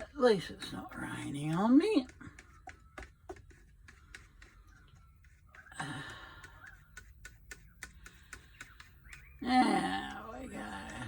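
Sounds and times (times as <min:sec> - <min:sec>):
stirrer tapping plastic pot: 0:00.0 - 0:11.0.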